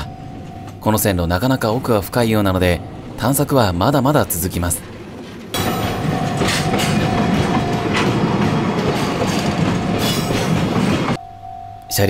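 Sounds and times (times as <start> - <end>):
freight train wheels clattering: 1.4 - 11.2.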